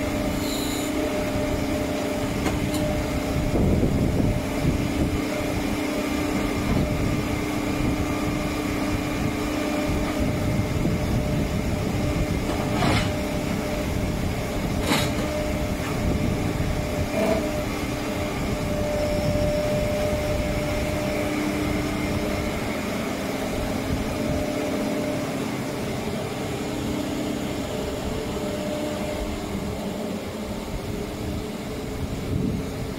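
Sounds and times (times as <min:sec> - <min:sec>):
excavator engine rumble with whine: 0:00.0 - 0:32.9.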